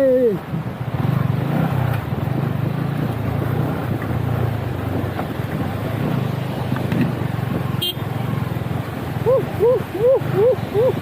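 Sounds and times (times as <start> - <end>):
wind on microphone: 0.4 - 11.0
motorcycle engine running: 0.5 - 11.0.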